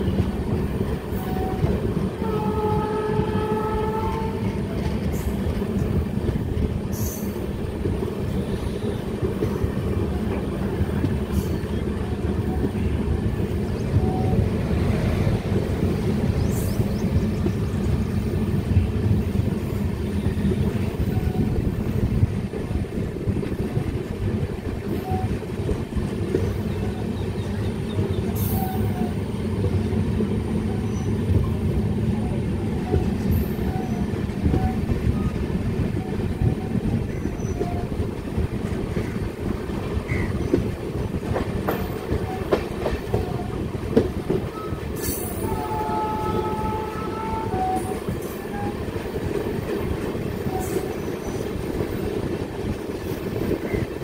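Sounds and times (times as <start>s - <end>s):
train rumbling and clattering: 0.0s - 54.0s.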